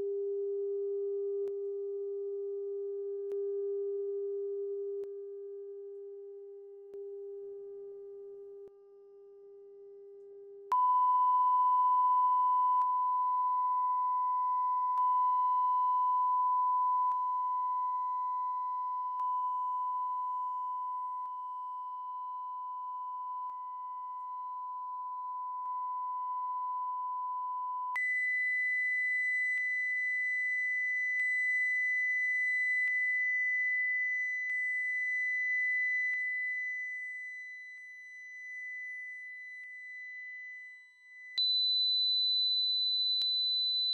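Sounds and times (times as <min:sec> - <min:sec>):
sine wave test tone: 0:00.0 - 0:43.9.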